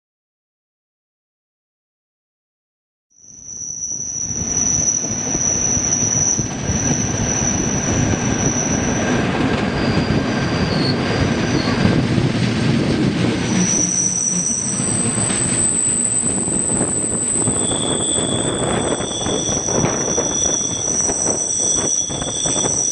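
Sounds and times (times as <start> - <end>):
train wheels squealing: 3.2 - 12.1, 13.2 - 22.9
train running rumble: 4.2 - 22.9.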